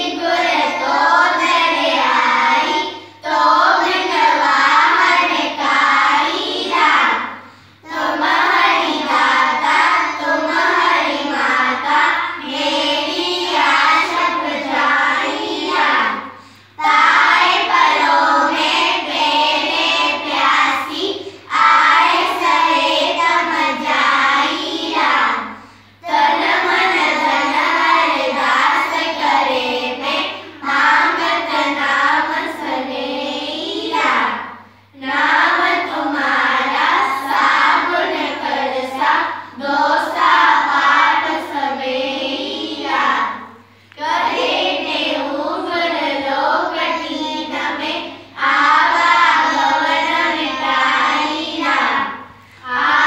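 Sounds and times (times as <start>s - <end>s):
children singing in unison: 0.0s - 53.0s.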